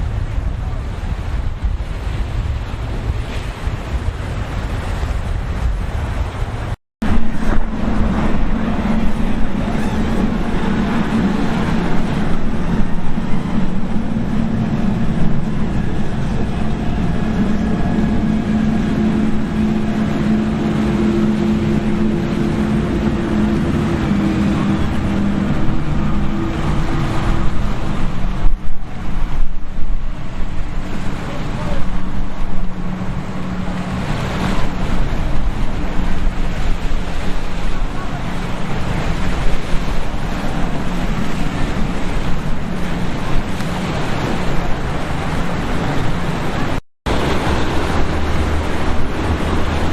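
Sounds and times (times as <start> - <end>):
powerboat engine drone: 0.0 - 49.9
surf: 0.0 - 49.9
wind on microphone: 0.0 - 49.9.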